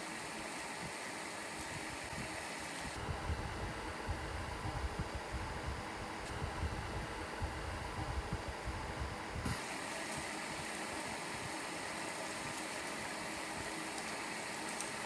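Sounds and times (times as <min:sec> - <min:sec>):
electric fan whirring: 0:00.0 - 0:15.0.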